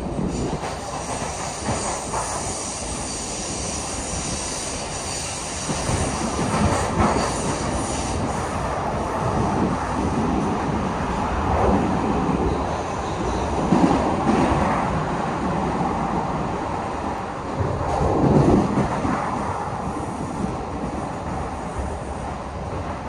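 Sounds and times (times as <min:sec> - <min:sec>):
hum of moving train: 0:00.0 - 0:23.0
subway wheels on rail: 0:00.0 - 0:23.0.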